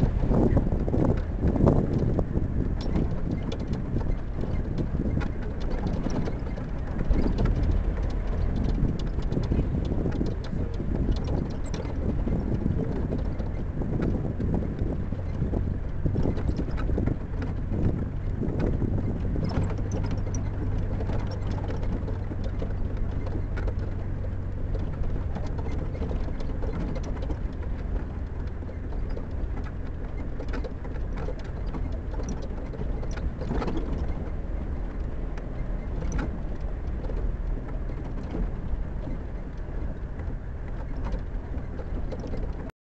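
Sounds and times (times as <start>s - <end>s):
bodywork knocks and rattles: 0.0s - 42.7s
vehicle engine running: 0.0s - 42.7s.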